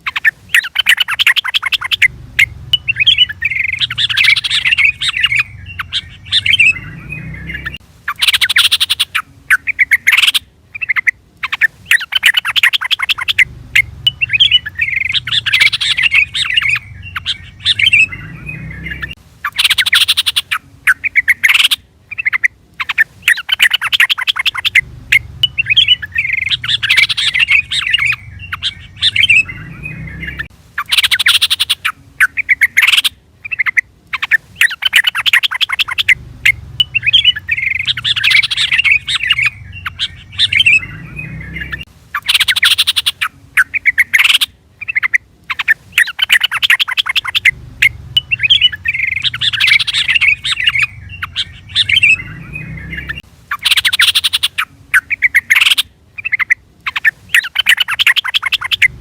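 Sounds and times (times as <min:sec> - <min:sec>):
bulbul chattering and warbling: 0:00.0 - 0:59.0.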